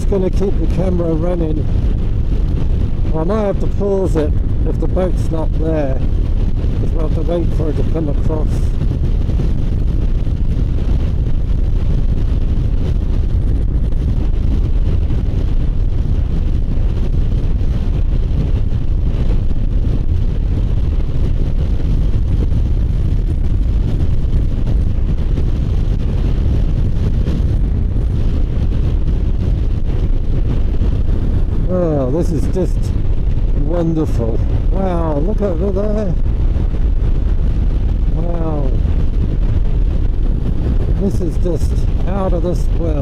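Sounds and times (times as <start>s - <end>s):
wind on microphone: 0.0s - 43.0s.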